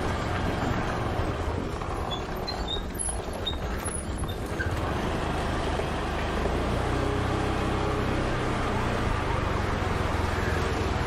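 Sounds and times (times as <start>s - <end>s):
road noise: 0.0s - 11.0s
scooter engine running: 0.0s - 11.0s.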